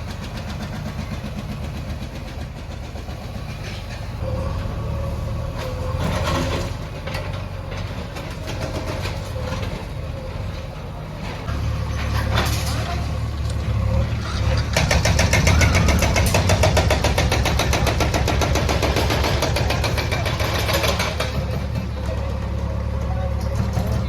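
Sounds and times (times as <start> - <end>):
diesel machinery engine running: 0.0 - 24.0.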